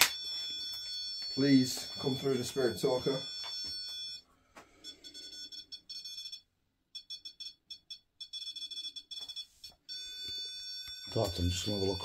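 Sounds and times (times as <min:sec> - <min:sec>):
electronic alarm beeping: 0:00.0 - 0:12.0.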